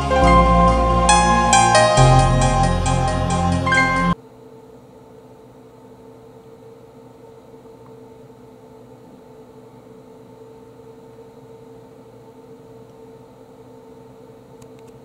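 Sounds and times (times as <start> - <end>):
steady machine hum: 0.0 - 14.1.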